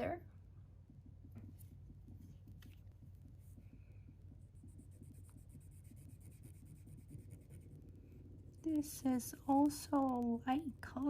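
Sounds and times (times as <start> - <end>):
low steady hum: 0.0 - 11.0
pen scratching on paper: 1.0 - 11.0.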